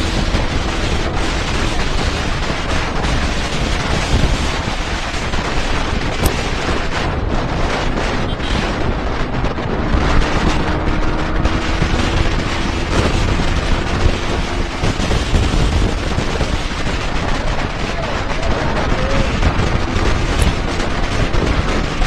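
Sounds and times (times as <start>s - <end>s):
motorcycle running at speed: 0.0s - 22.0s
rapid crackling: 0.0s - 22.0s
wind buffeting microphone: 0.0s - 22.0s.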